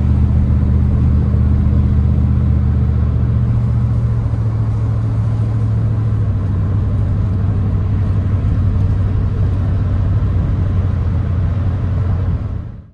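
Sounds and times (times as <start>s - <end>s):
engine drone: 0.0s - 12.9s
road noise: 0.0s - 12.9s.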